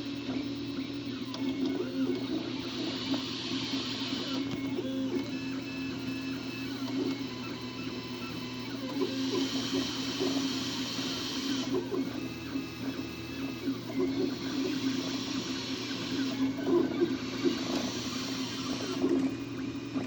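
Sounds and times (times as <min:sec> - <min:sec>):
printer stepper motors whining: 0:00.0 - 0:20.0
steady hum: 0:00.0 - 0:20.0.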